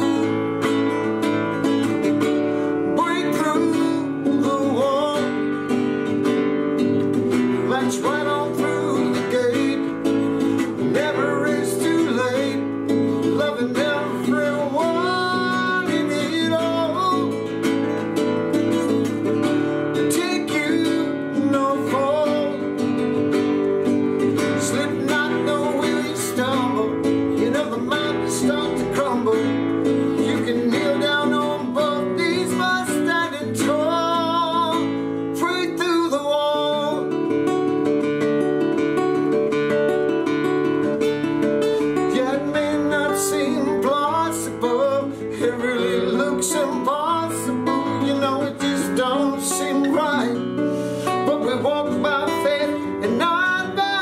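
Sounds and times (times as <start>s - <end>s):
man singing: 0.0s - 54.0s
nylon-string guitar playing: 0.0s - 54.0s.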